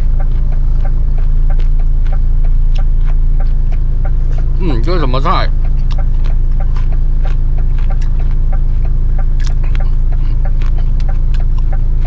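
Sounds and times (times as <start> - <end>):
eating clicks: 0.0 - 12.0
light regular ticking: 0.0 - 12.0
vehicle engine idling: 0.0 - 12.0.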